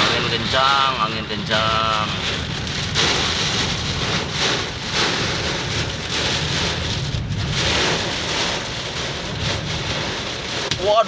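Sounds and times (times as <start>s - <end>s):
heavy rain in strong wind: 0.0s - 11.0s.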